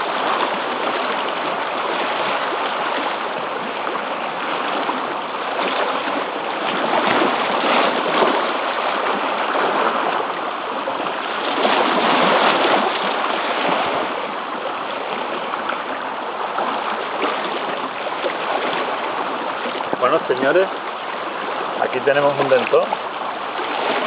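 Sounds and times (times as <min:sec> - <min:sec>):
seawater washing against rocks: 0:00.0 - 0:24.0.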